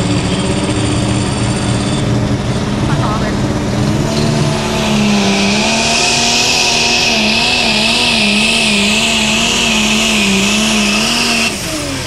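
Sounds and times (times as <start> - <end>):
diesel engine at full power: 0.0 - 12.0
high whine: 0.0 - 12.0.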